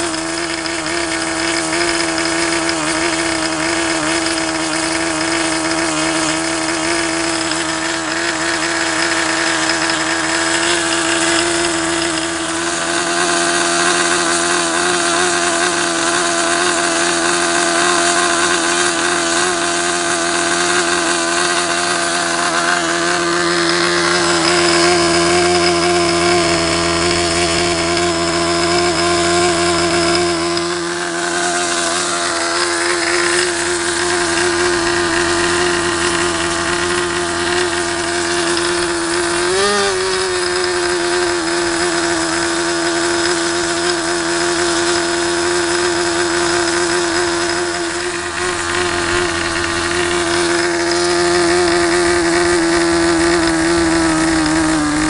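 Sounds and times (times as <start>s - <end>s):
model airplane engine running at high revs: 0.0s - 55.0s.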